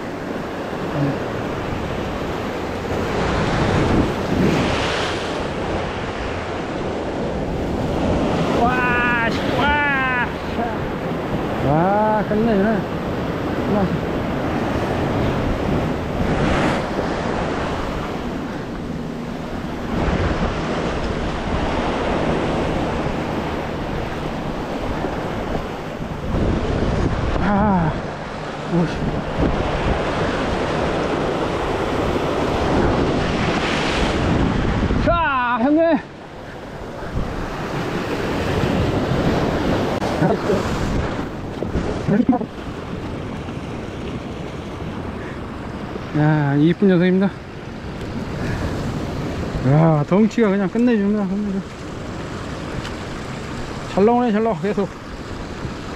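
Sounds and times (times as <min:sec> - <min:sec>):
surf breaking on rocky shore: 0:00.0 - 0:55.9
wind buffeting microphone: 0:00.0 - 0:55.9.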